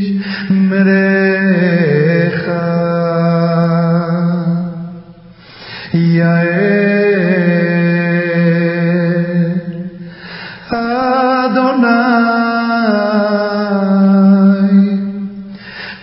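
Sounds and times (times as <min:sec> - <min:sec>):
slow chant-like singing: 0:00.0 - 0:16.0.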